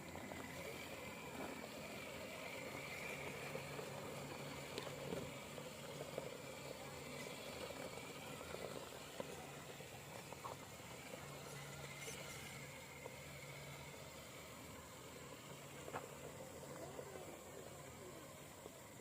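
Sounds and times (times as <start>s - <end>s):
small motor and gears whirring: 0.0s - 19.0s.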